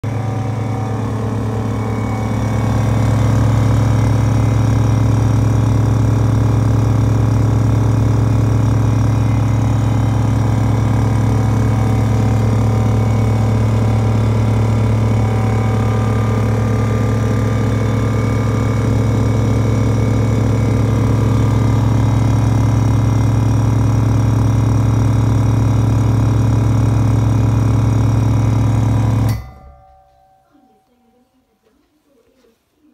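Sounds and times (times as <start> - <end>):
air compressors humming: 0.0 - 30.8.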